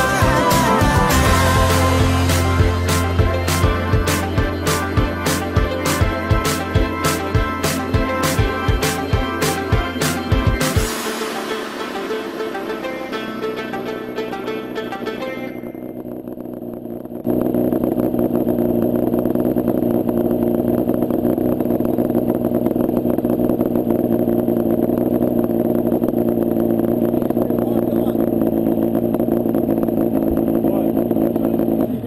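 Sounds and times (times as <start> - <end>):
two-stroke engine running: 0.0 - 32.0.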